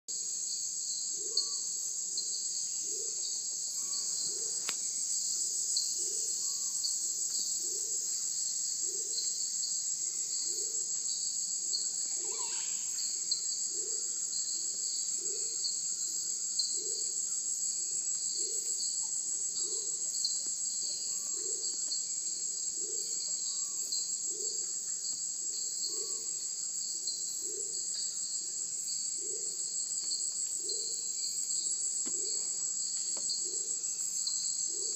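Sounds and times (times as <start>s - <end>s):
insect chorus high buzz: 0.1s - 34.9s.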